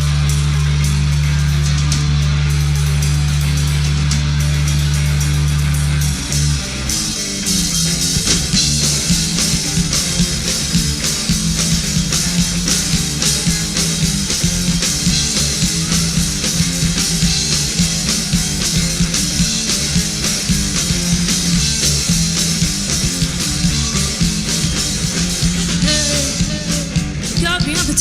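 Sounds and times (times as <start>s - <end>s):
rock band with drums: 0.0s - 28.0s.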